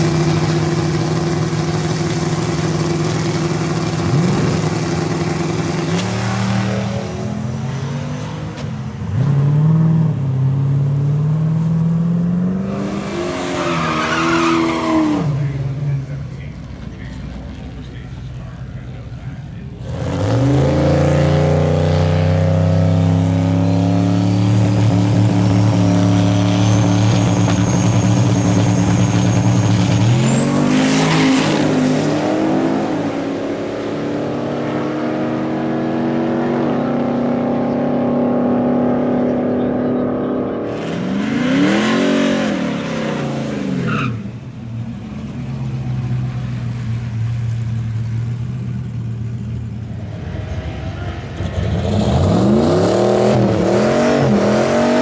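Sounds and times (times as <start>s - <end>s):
engine revving: 0.0s - 10.6s, 11.2s - 44.3s, 50.0s - 55.0s
car engines running loud: 0.0s - 55.0s.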